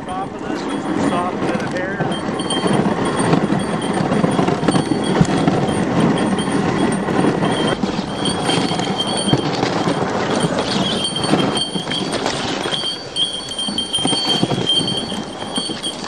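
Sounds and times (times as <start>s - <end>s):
sled runners scraping on snow: 0.0s - 16.0s.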